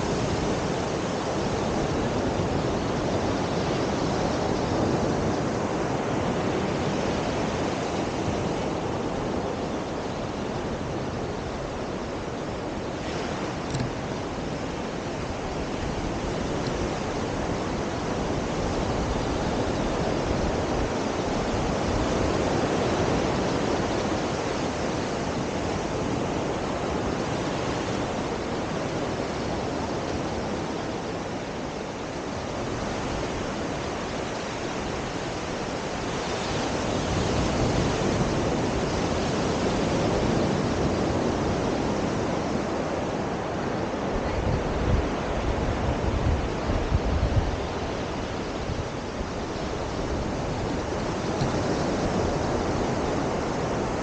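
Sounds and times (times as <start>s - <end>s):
waves breaking on beach: 0.0s - 54.0s
wind on microphone: 0.0s - 54.0s.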